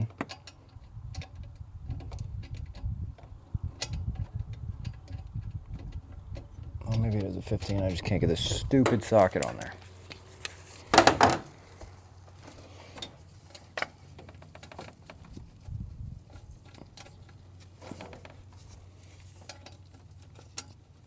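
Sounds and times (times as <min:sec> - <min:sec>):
light metal clicks and knocks: 0:00.0 - 0:10.2, 0:10.9 - 0:21.0.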